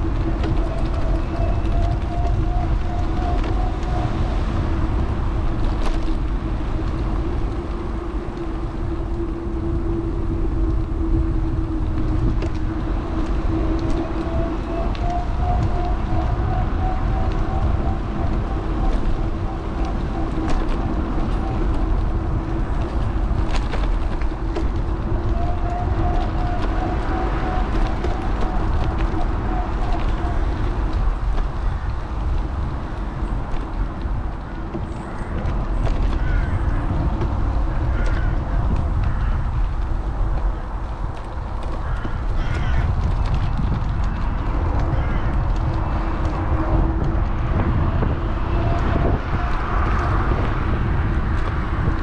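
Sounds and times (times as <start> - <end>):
tyres on road: 0.0 - 52.0
wind rumble: 0.0 - 52.0.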